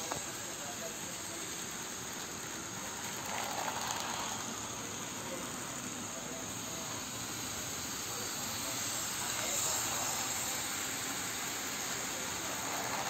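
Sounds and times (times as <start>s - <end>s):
model train whirring on track: 0.0s - 13.0s.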